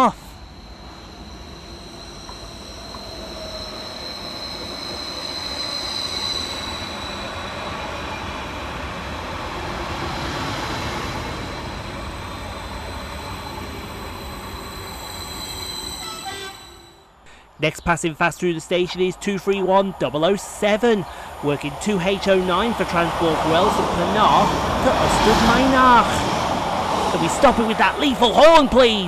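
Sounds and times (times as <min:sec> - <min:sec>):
train wheel and running noise: 0:00.0 - 0:16.9, 0:18.4 - 0:29.0
train high-pitched whine: 0:00.0 - 0:29.0.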